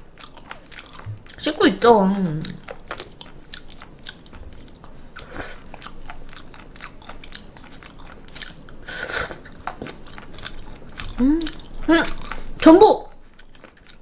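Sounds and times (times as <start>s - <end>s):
person chewing: 0.0s - 1.5s, 2.4s - 14.0s.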